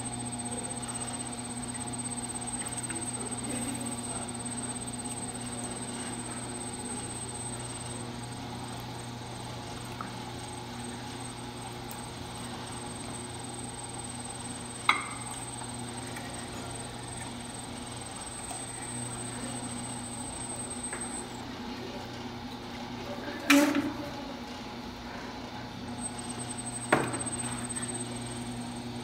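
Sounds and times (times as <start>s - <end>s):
faint high whine: 0.0s - 21.4s, 26.0s - 29.0s
potter's wheel motor hum: 0.0s - 29.0s.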